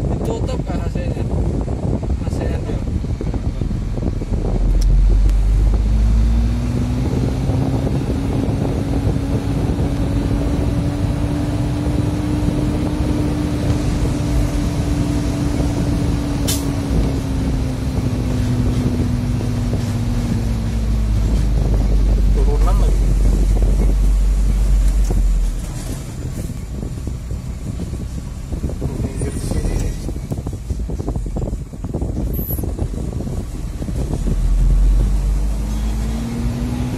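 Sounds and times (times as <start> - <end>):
diesel truck engine under load: 0.0 - 36.9.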